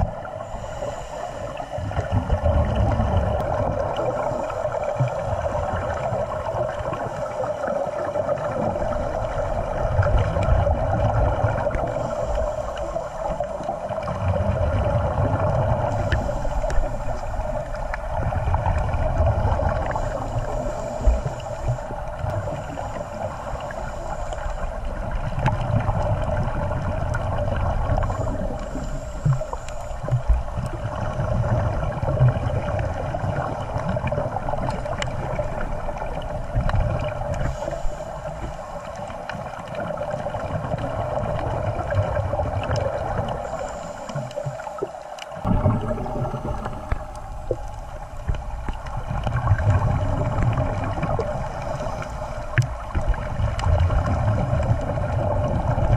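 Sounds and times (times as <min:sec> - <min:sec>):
muffled underwater hum: 0:00.0 - 0:55.9
faint clicks and crackles: 0:00.1 - 0:55.9.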